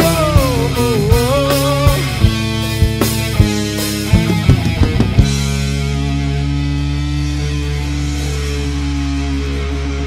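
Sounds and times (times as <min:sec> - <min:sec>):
distorted electric guitars and bass: 0:00.0 - 0:10.0
full band hit: 0:00.0 - 0:10.0.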